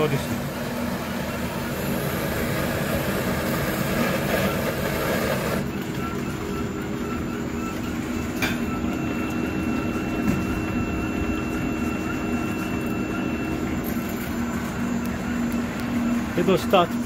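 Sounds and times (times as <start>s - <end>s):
extruder motor humming: 0.0s - 17.0s
faint high whine: 0.0s - 17.0s.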